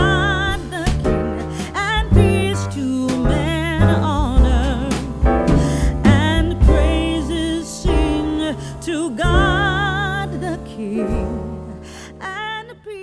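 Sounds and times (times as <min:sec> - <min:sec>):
song with vibrato vocals and piano: 0:00.0 - 0:13.0.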